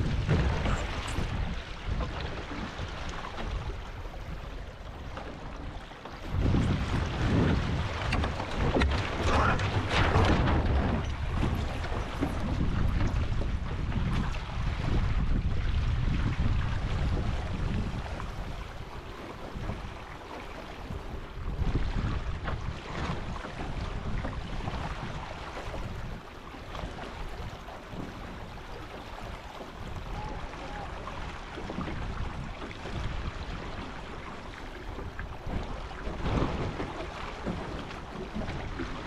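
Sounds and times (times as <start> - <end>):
water rushing and splashing: 0.0 - 39.0
wind buffeting microphone: 0.0 - 39.0.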